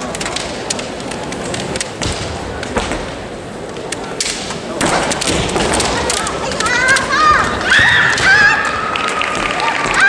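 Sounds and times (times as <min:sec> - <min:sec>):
din of busy hall: 0:00.0 - 0:10.0.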